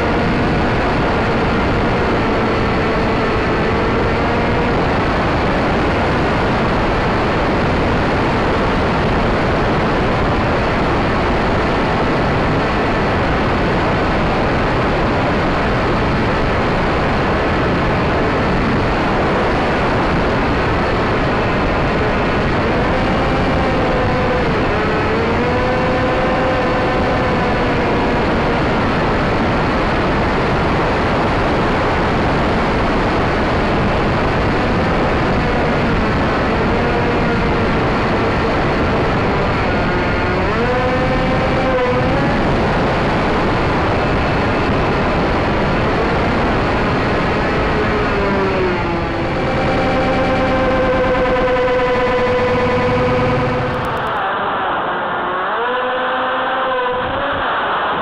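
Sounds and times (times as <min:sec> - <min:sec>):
airflow and propeller noise: 0:00.0 - 0:58.0
electric motor whine: 0:00.0 - 0:58.0.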